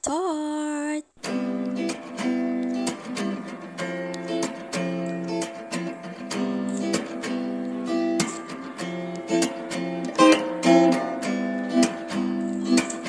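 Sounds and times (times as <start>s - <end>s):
acoustic guitar strumming: 1.2s - 13.0s.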